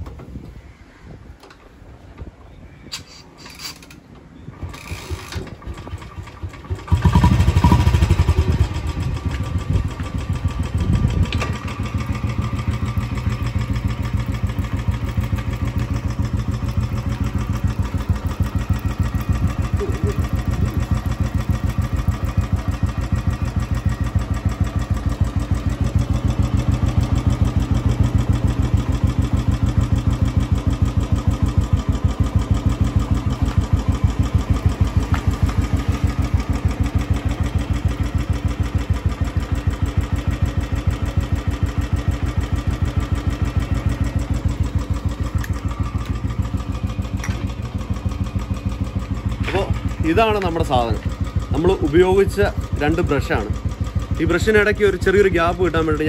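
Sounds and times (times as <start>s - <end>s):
motorcycle engine starting and idling: 2.8s - 56.0s.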